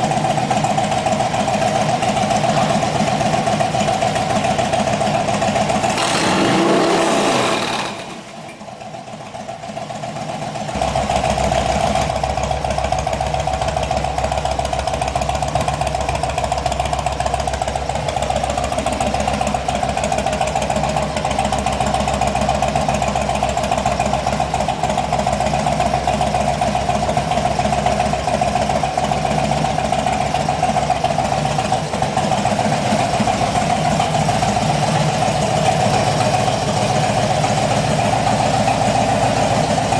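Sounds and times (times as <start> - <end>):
deep pulsing engine idle: 0.0 - 39.9.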